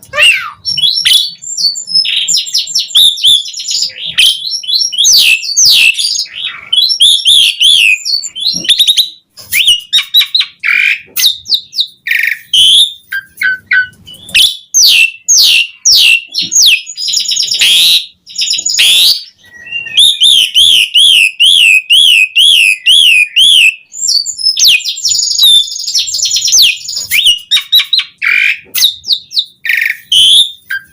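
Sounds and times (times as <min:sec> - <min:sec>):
starling singing: 0:00.0 - 0:30.9.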